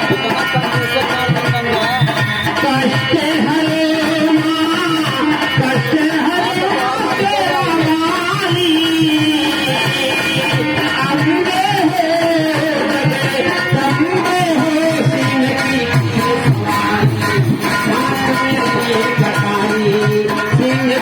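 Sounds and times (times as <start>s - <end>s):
dholak drum beat: 0.0s - 21.0s
person singing: 0.0s - 21.0s.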